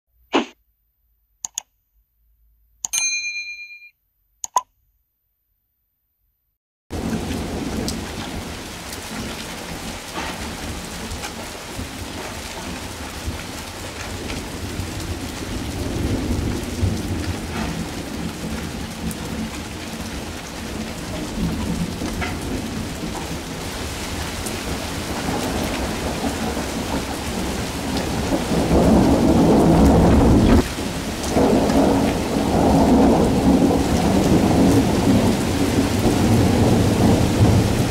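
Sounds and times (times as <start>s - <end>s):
rain falling: 6.9s - 37.9s
thunder rumbling: 6.9s - 37.9s.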